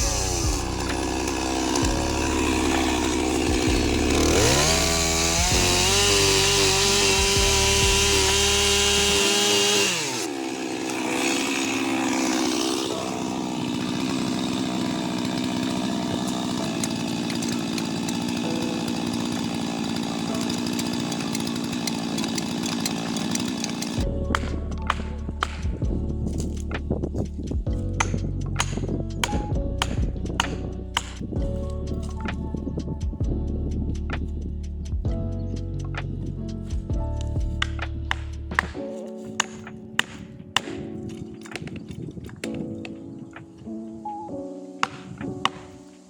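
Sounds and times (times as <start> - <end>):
chainsaw cutting wood: 0.0 - 32.9, 36.0 - 46.0.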